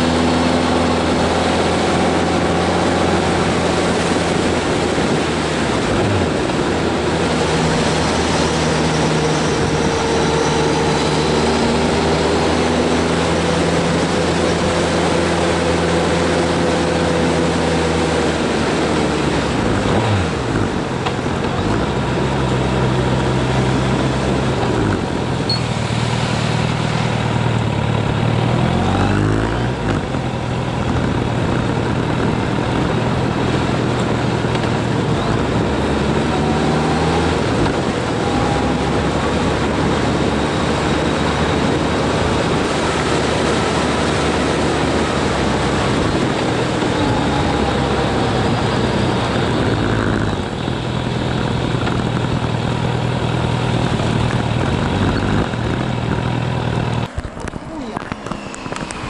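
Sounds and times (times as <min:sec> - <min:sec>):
road and wind noise: 0:00.0 - 0:59.0
vehicle engine running: 0:00.0 - 0:59.0.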